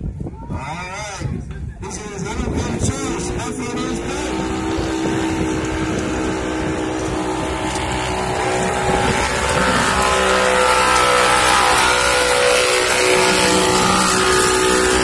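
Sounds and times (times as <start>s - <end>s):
utv engine running and revving: 1.9s - 15.0s.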